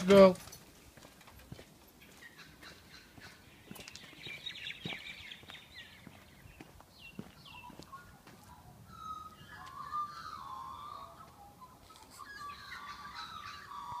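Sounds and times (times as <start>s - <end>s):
birds warbling in dawn chorus: 1.5s - 14.0s.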